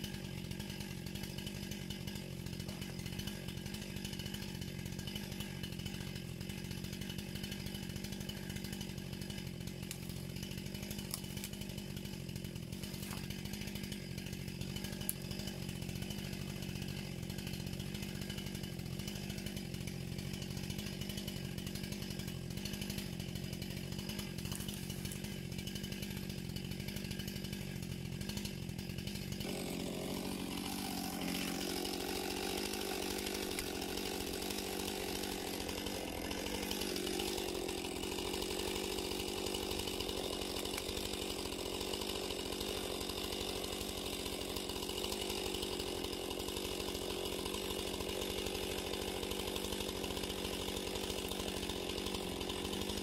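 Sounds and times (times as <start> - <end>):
chainsaw running: 0.0 - 53.0.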